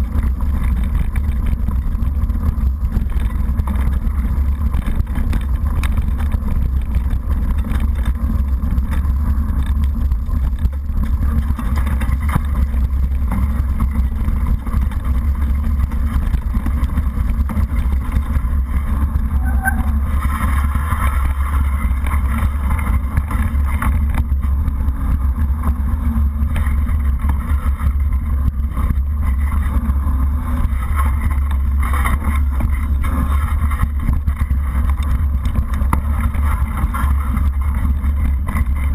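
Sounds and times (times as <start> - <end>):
bike tyre and frame rattle: 0.0 - 38.9.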